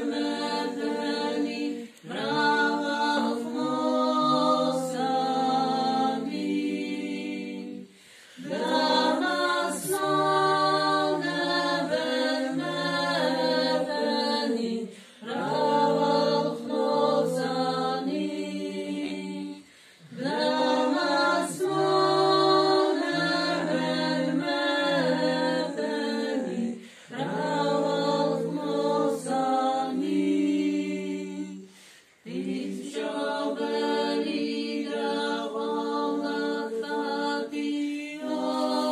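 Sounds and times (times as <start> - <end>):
women singing a hymn a cappella: 0.0 - 38.9.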